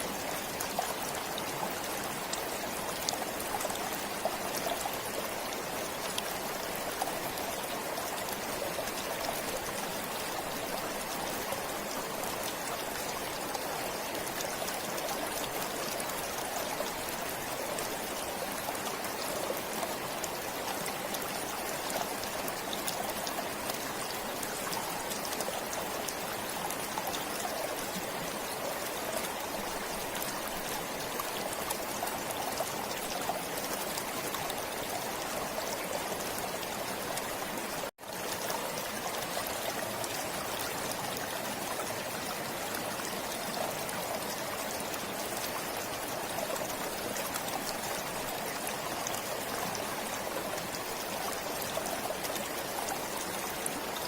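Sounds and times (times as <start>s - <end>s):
forest stream flowing: 0.0s - 54.0s.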